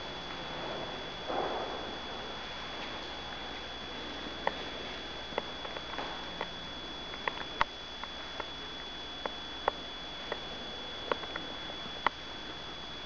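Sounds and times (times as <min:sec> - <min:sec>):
steady hiss: 0:00.0 - 0:13.0
thin high whine: 0:00.0 - 0:13.0.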